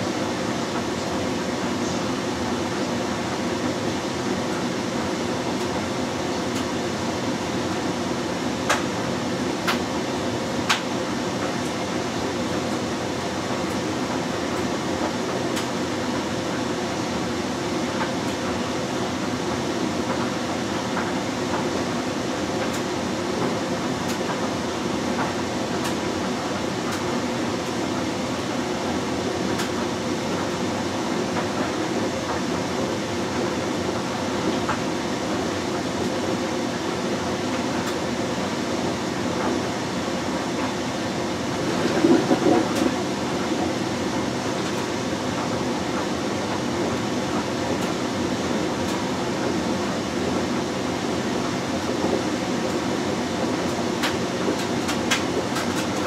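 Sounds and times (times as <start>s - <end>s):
washing machine churning and sloshing: 0.0s - 56.0s.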